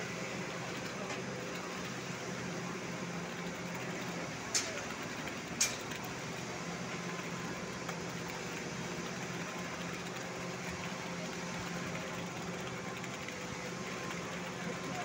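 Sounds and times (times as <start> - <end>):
machinery engine running: 0.0 - 15.0.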